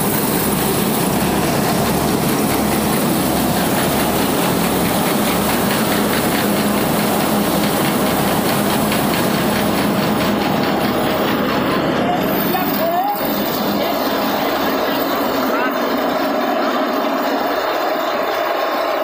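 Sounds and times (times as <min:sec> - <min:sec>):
fast rattling of milling machinery: 0:00.0 - 0:19.0
rice mill machine running: 0:00.0 - 0:19.0.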